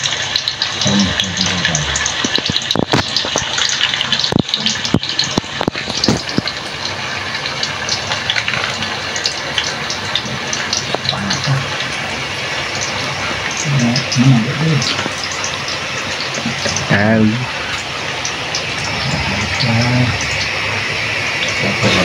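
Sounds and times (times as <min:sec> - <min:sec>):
paste sizzling in hot oil: 0:02.1 - 0:22.0.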